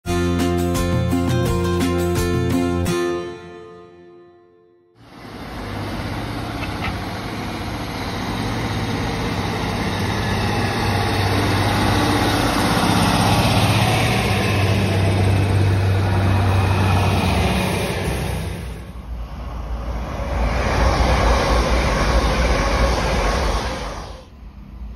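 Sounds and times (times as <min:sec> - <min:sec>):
diesel train engine drone: 0:04.9 - 0:24.9.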